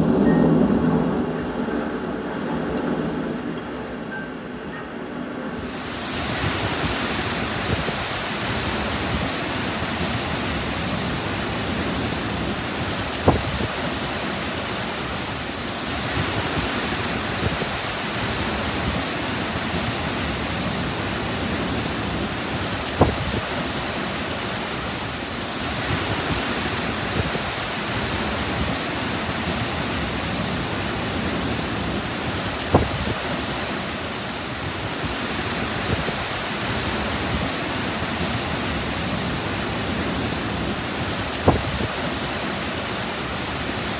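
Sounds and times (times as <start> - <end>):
heavy rain in strong wind: 0.0 - 43.9.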